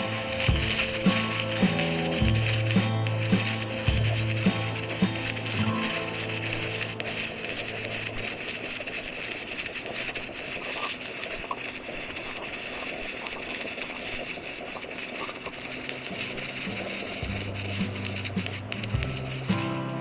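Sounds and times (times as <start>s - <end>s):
welding arc crackling hiss: 0.0s - 20.0s.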